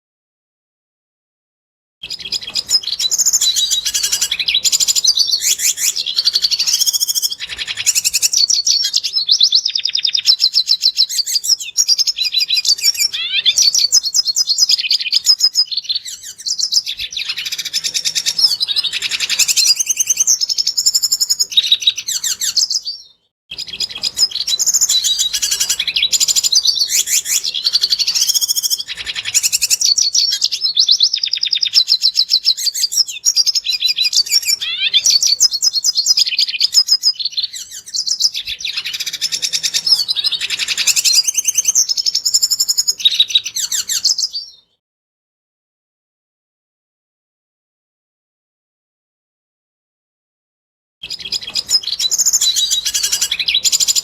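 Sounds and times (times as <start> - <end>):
bird twittering song: 2.0 - 44.8, 51.0 - 54.0.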